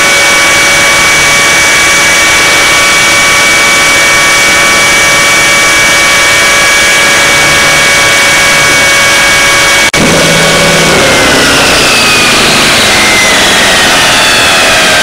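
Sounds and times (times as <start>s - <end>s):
rc helicopter high whine: 0.0s - 15.0s
rush of rotor air: 0.0s - 15.0s.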